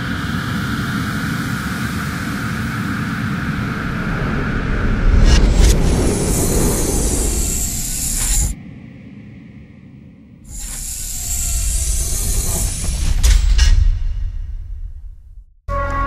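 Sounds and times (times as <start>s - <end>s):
spaceship hissing rush: 0.0s - 9.6s, 10.5s - 14.7s
faint hum: 0.0s - 13.2s
deep rumble: 2.3s - 15.7s.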